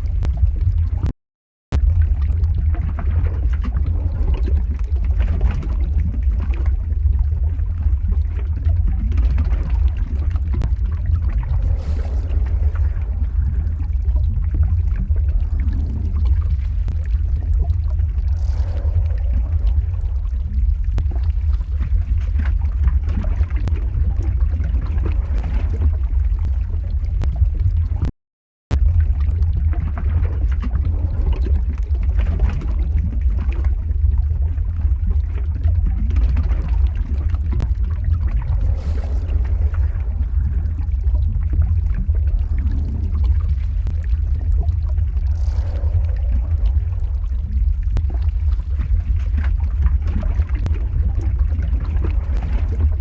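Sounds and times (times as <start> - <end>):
crackles and ticks: 0.0 - 1.1, 1.7 - 28.1, 28.7 - 53.0
deep lava rumble: 0.0 - 53.0.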